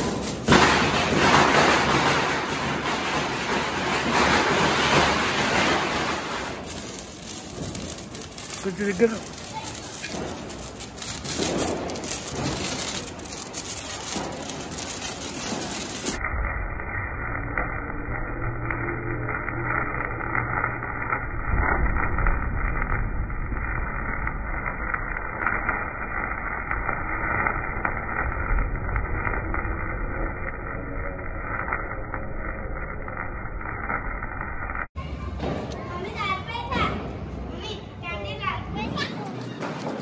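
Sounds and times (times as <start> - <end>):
small sharp crackles: 0.0 - 16.3, 17.0 - 35.0
low rumble: 0.0 - 35.0
sparklers fizzing: 0.0 - 37.0.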